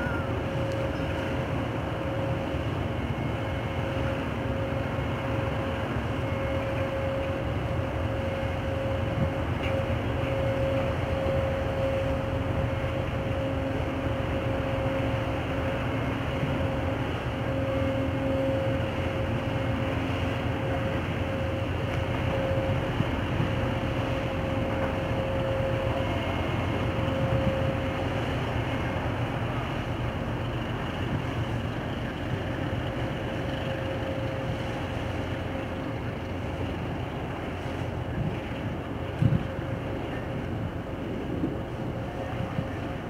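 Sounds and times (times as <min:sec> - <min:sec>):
boat diesel engine rumbling: 0:00.0 - 0:43.0.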